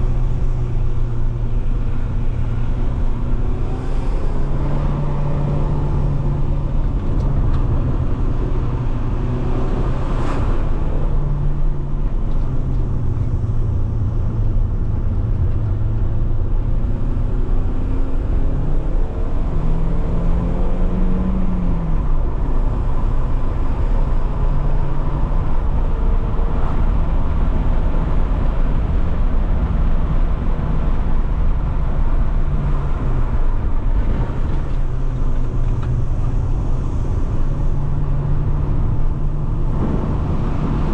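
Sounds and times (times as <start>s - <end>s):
car engine at steady speed: 0.0s - 40.9s
road noise: 0.0s - 40.9s.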